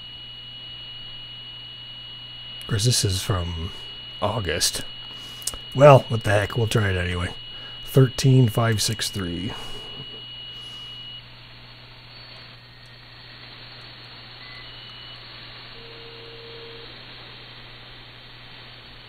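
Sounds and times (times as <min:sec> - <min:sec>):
steady low hum: 0:00.0 - 0:19.0
radio static and hiss: 0:02.6 - 0:19.0.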